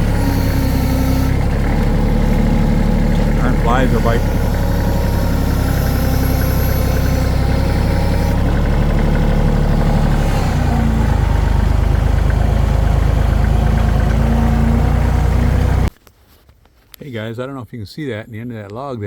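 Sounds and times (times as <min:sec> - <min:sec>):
tractor engine idling: 0:00.0 - 0:15.9.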